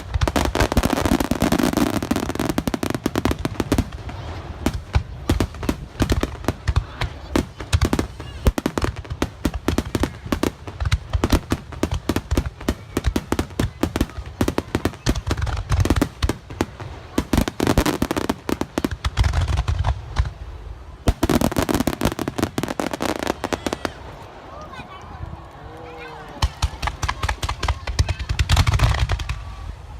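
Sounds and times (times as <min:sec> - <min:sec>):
deep fireworks booms: 0:00.0 - 0:24.2, 0:26.3 - 0:29.9
fireworks bangs and crackles: 0:00.0 - 0:29.9.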